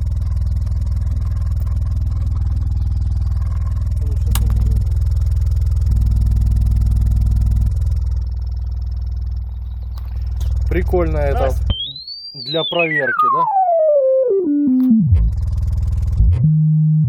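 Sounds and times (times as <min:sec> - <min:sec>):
subwoofer playing deep bass tone: 0:00.0 - 0:17.0.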